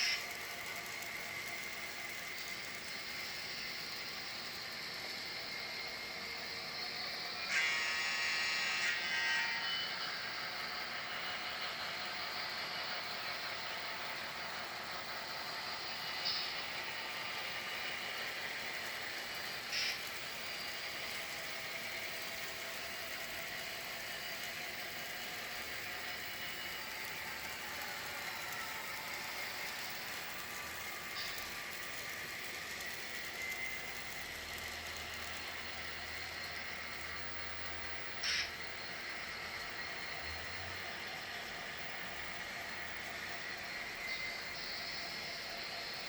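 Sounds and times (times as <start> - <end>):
train wheels rattling on track: 0.0 - 37.2.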